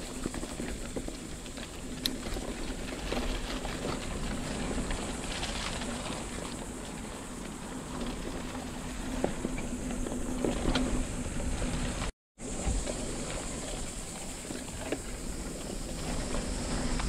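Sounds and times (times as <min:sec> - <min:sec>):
bike clicks and rattles: 0:00.0 - 0:17.0
bike tyres on dirt: 0:00.0 - 0:17.0
wind on microphone: 0:00.0 - 0:17.0.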